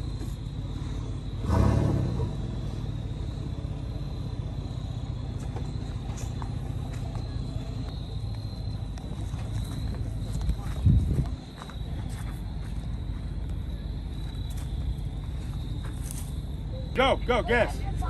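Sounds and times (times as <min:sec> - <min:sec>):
insects chirping: 0:00.0 - 0:18.0
vehicle engines idling: 0:00.0 - 0:18.0.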